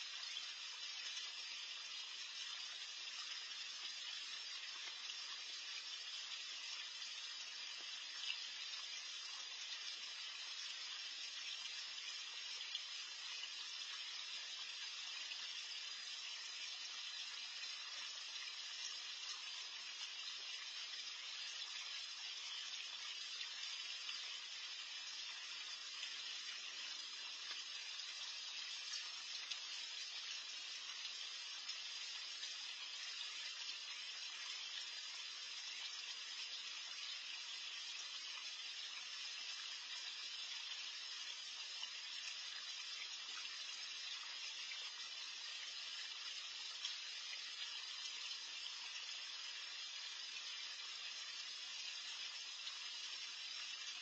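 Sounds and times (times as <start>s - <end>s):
water feature running: 0.0s - 54.0s.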